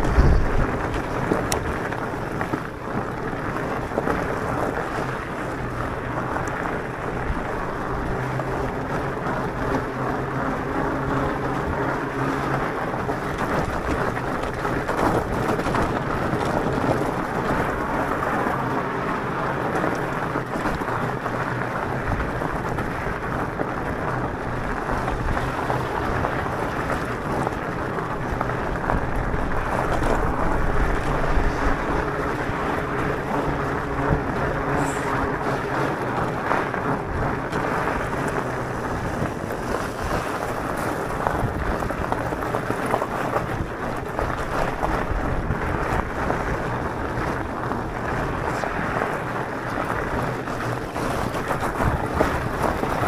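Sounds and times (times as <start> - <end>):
bike tyres crunching on gravel: 0.0 - 53.0.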